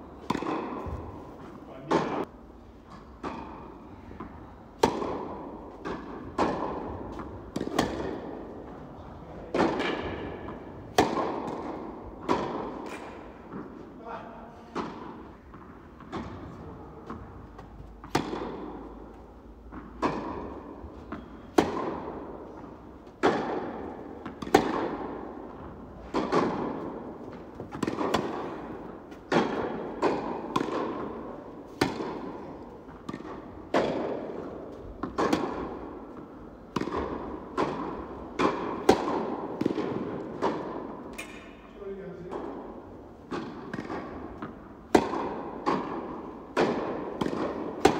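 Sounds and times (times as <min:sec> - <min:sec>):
tennis ball hits echoing: 0:00.2 - 0:02.3, 0:02.9 - 0:08.8, 0:09.4 - 0:13.7, 0:14.7 - 0:41.6, 0:42.3 - 0:47.9.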